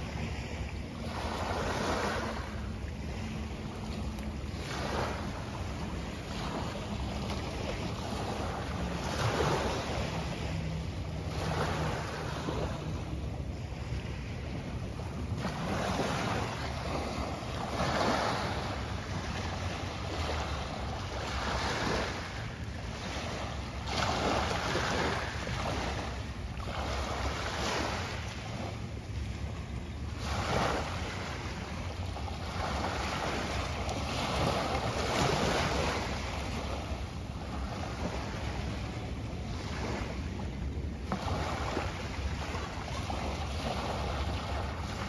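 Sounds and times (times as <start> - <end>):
small waves washing ashore: 0.0 - 45.0.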